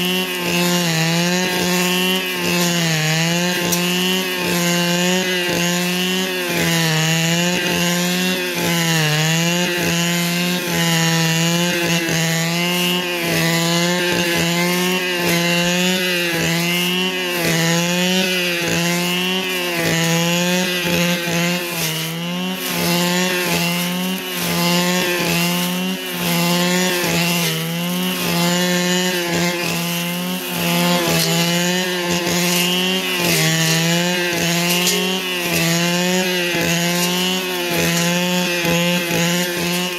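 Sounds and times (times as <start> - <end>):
brush cutter running: 0.0 - 39.9.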